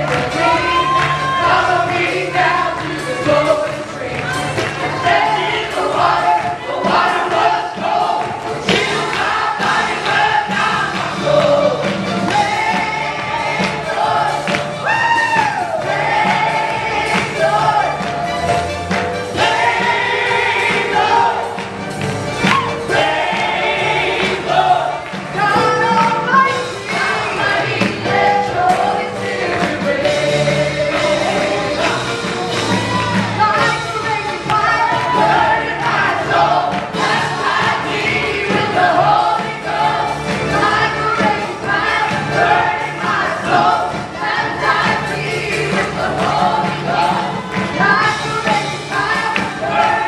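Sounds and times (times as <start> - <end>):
group singing into microphones: 0.0 - 50.0
instrumental backing: 0.0 - 50.0.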